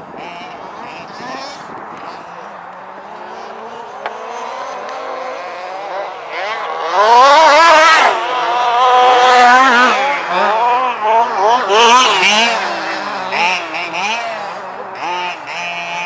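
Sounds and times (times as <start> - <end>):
rc buggy engines racing: 0.0 - 16.0.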